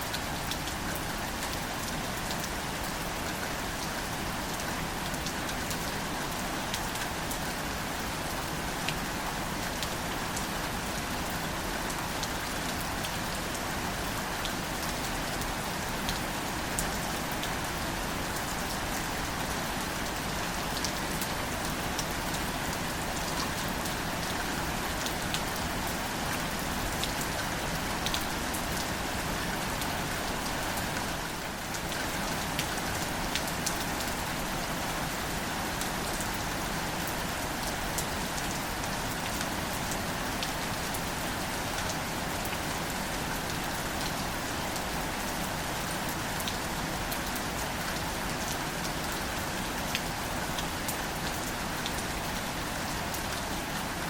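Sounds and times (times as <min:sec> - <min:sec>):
gentle rain on foliage: 0:00.0 - 0:54.0.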